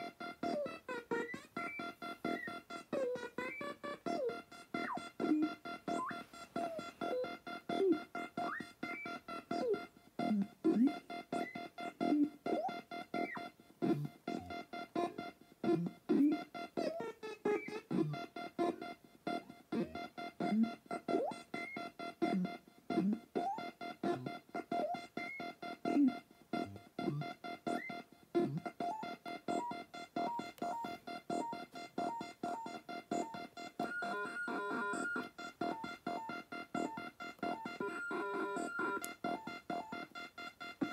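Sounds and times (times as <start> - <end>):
choppy electronic bleeps: 0.0 - 40.9.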